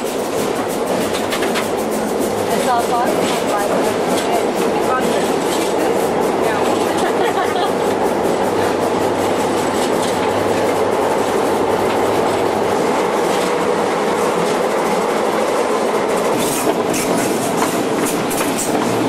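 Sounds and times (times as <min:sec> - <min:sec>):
locomotive engine and wheels droning: 0:00.0 - 0:19.0.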